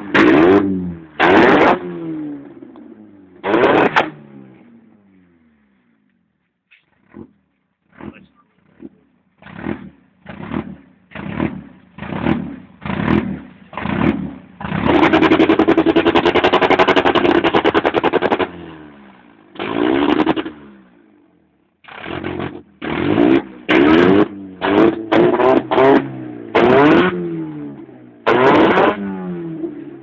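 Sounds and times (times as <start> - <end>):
car engine revving: 0.0 - 5.8, 6.9 - 21.2, 21.8 - 30.0.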